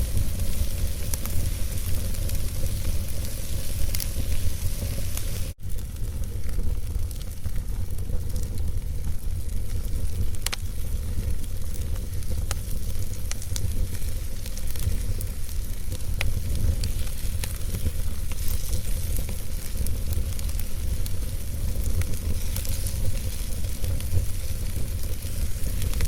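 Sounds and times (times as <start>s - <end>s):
fire rumbling and hissing: 0.0s - 26.0s
wood crackles and pops: 0.0s - 26.0s.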